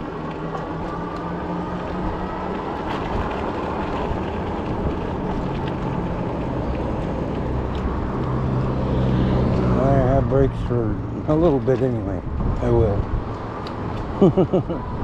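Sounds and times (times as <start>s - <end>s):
bicycle tyres rolling: 0.0s - 15.0s
low motor hum: 0.0s - 15.0s
wind noise: 1.8s - 15.0s.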